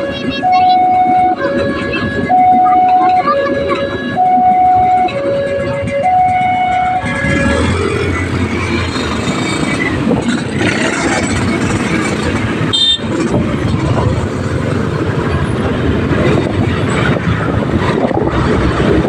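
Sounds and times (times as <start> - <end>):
rumble of vehicles: 0.0 - 19.0.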